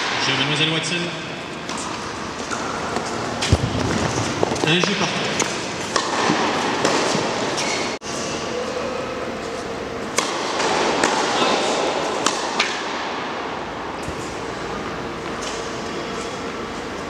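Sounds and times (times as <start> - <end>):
large hall background noise: 0.0 - 17.0.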